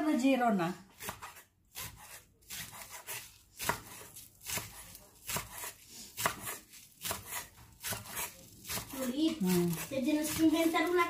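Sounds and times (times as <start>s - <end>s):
knife chopping on wooden board: 0.9s - 11.0s.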